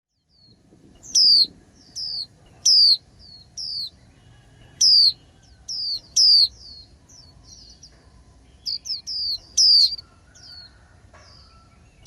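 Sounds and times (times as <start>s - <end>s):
bird chirping: 0.1s - 12.0s.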